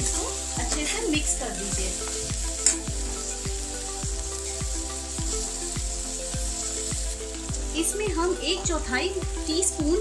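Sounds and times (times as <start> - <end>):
soft background music: 0.0 - 10.0
vegetables sizzling in hot oil: 0.0 - 10.0.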